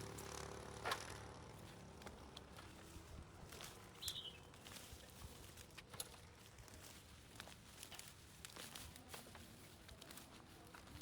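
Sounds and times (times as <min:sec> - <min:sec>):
faint clicks and rustles: 0:00.9 - 0:11.0.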